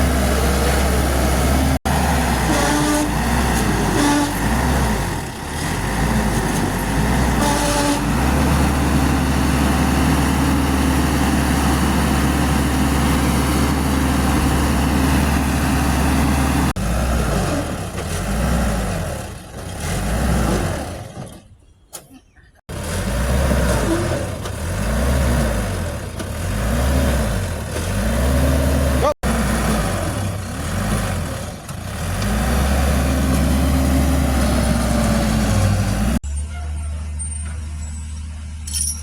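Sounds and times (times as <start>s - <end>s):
heavy diesel engines running: 0.0s - 21.6s, 22.7s - 39.0s.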